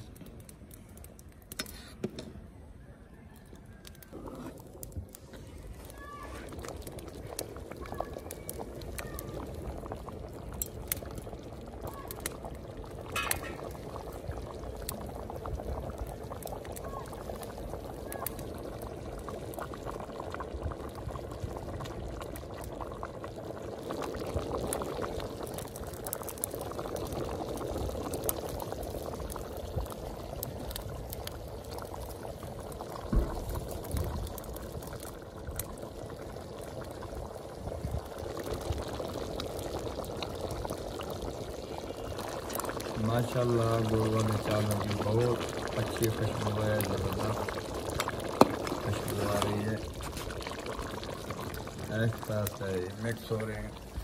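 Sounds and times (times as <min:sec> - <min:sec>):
rice boiling with bubbling pops: 0:00.0 - 0:54.0.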